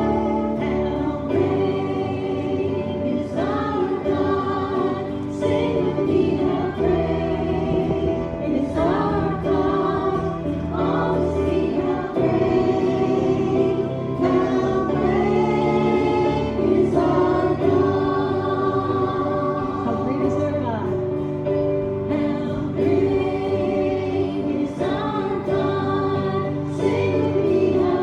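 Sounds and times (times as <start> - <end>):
choir singing a gospel hymn: 0.0 - 28.0.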